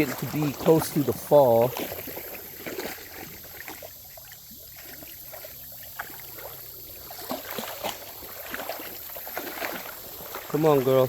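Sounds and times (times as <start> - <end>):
creek water trickling: 0.0 - 11.0
small splashes and clicks: 0.0 - 11.0.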